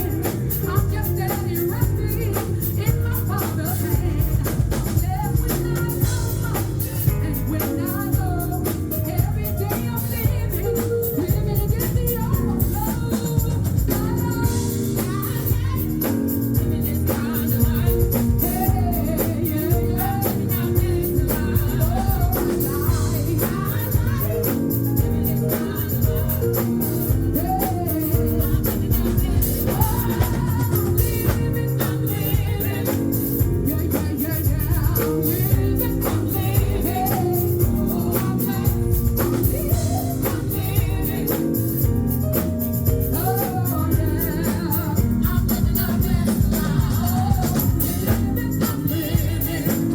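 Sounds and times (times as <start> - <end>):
full band with drums: 0.0 - 49.9
woman singing gospel: 0.0 - 49.9.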